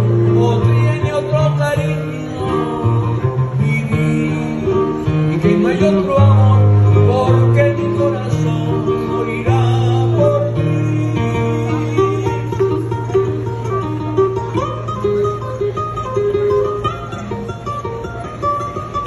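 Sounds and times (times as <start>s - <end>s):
amplified acoustic guitar music: 0.0s - 19.0s
held bass notes: 0.0s - 19.0s.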